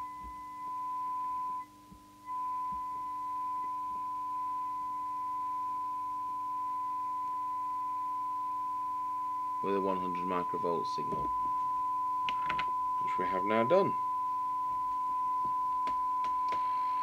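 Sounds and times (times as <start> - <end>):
faint low hum: 0.0 - 17.0
radio test tone: 2.3 - 17.0.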